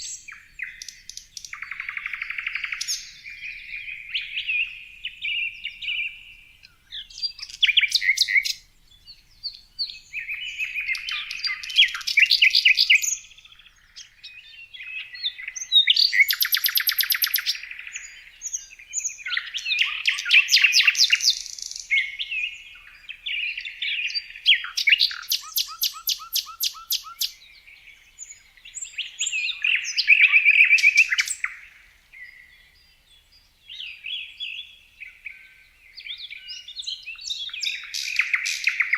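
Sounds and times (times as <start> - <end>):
songbird trilling and whistling: 0.0 - 32.8, 33.7 - 38.9.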